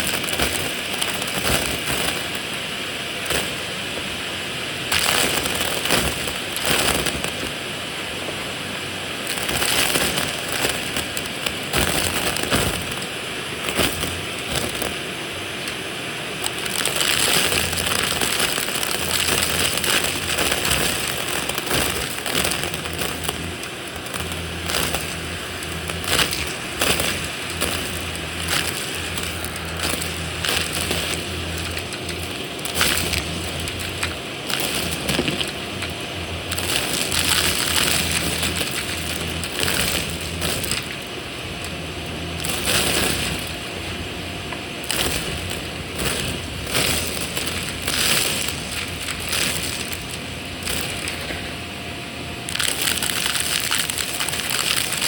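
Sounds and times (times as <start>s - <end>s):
debris crunching and rattling: 0.0s - 4.0s, 4.8s - 7.6s, 9.1s - 51.6s, 52.4s - 55.0s
vacuum cleaner running: 0.0s - 55.0s.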